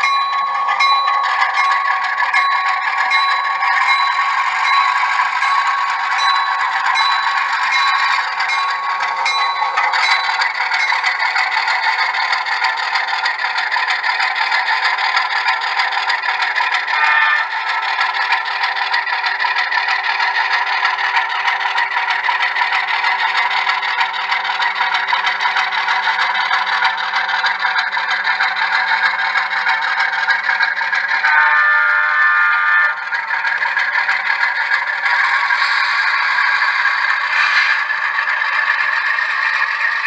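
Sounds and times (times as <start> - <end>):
model train running on track: 0.0 - 40.0.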